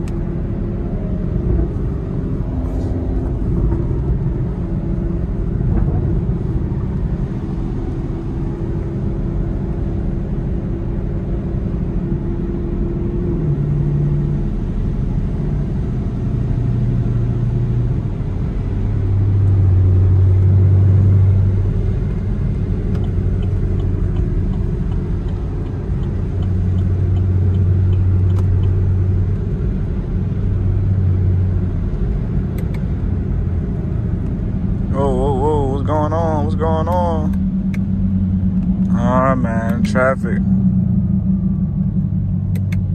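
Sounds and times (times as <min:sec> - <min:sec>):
car engine droning: 0:00.0 - 0:42.9.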